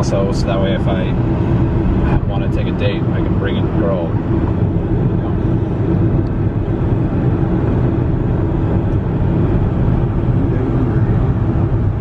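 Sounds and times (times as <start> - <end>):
car driving interior rumble: 0.0 - 12.0.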